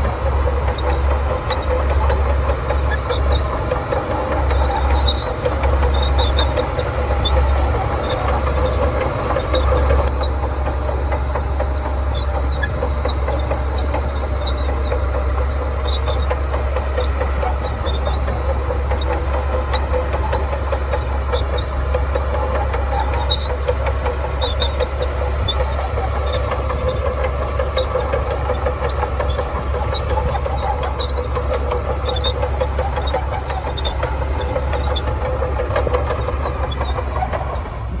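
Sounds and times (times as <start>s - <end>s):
bulldozer diesel engine humming: 0.0s - 38.0s.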